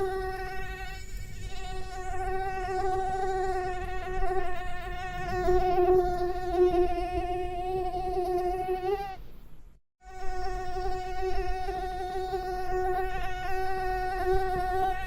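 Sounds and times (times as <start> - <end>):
mosquito buzzing: 0.0 - 9.2, 10.0 - 15.0.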